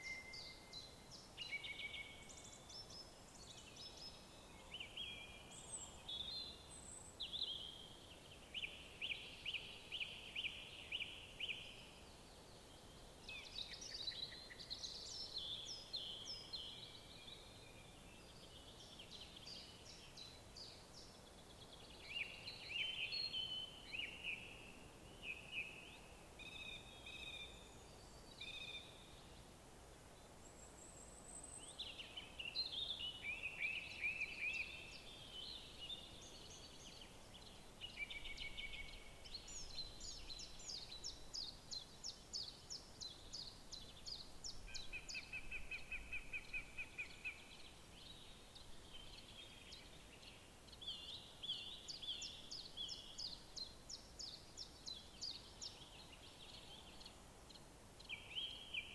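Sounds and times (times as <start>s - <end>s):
faint background hiss: 0.0s - 58.9s
songbirds singing: 0.0s - 58.9s.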